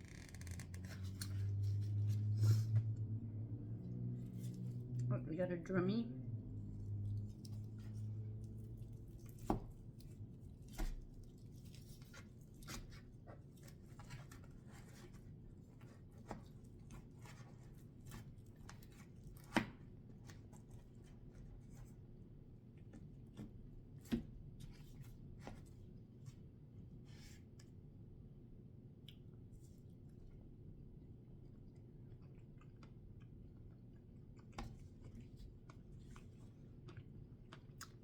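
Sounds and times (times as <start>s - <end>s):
chewing and tearing chicken: 3.7s - 5.0s, 6.5s - 26.6s, 28.9s - 38.0s.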